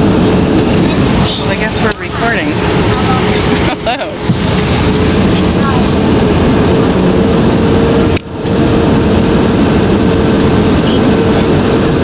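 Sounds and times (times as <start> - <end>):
aircraft cabin engine noise: 0.0 - 12.0
steady droning tone: 0.0 - 12.0.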